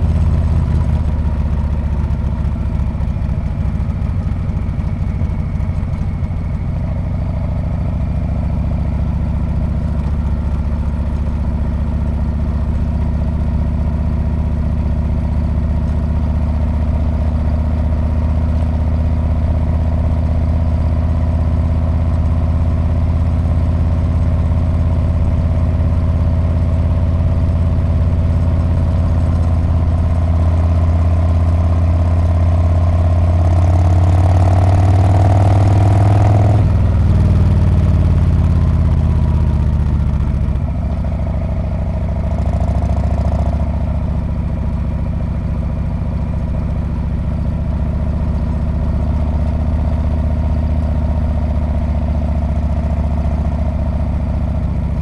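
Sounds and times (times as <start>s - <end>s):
motorcycle engine through exhaust: 0.0s - 55.0s.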